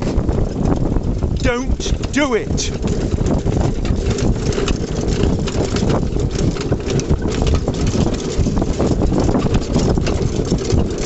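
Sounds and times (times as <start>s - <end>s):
cart rolling and chains rattling: 0.0s - 11.0s
wind rumble on microphone: 0.0s - 11.0s
pony hoofbeats: 1.4s - 11.0s.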